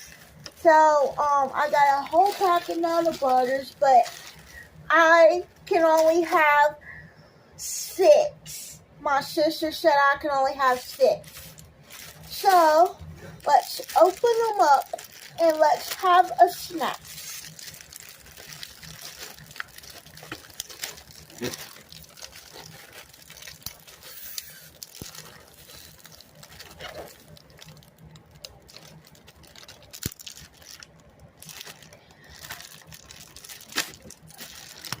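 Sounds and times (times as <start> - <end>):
plastic packaging crinkling and tearing: 0.0 - 6.6, 9.9 - 35.0.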